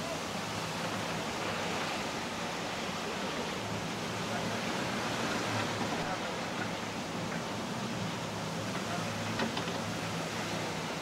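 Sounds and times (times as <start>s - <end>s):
rough sea churning along hull: 0.0s - 11.0s.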